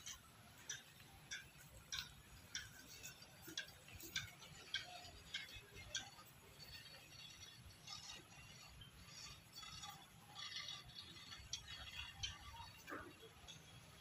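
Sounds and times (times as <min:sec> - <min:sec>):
faint sharp ticking: 0:00.0 - 0:14.0.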